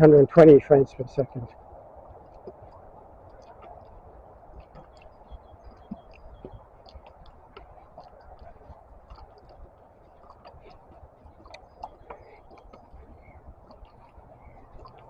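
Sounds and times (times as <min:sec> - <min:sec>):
small birds chirping: 0:02.5 - 0:15.0.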